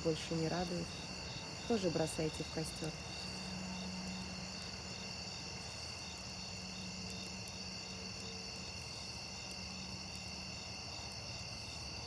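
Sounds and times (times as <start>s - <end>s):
crickets chirping: 0.0s - 12.0s
faint bonfire crackles: 0.0s - 12.0s.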